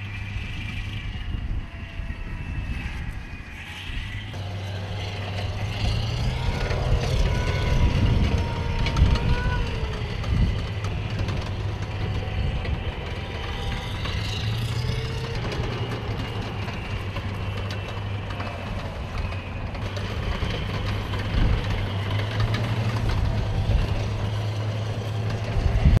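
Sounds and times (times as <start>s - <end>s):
diesel engine low drone: 0.0s - 26.0s.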